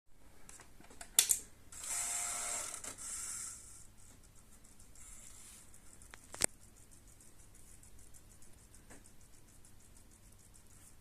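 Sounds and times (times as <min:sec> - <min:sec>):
small mechanism whirring: 0:01.7 - 0:10.8.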